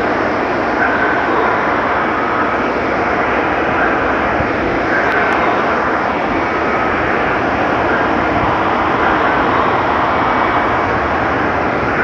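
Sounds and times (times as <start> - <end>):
car wash dryers blowing air: 0.0 - 12.0.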